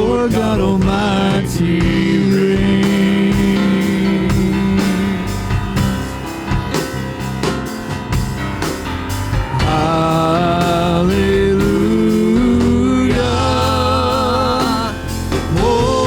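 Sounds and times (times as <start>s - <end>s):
drum kit steady beat: 0.0s - 16.0s
guitar and keyboard chords: 0.0s - 16.0s.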